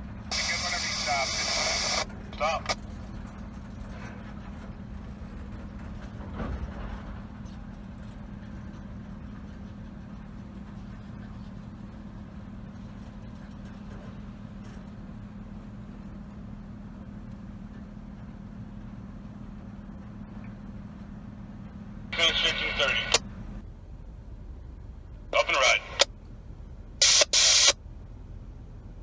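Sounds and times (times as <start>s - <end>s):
freight cars rumbling on rails: 0.0s - 27.0s.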